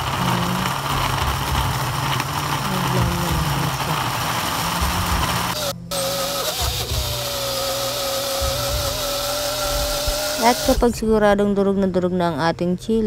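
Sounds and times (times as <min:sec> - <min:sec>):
blender motor running: 0:00.0 - 0:10.9.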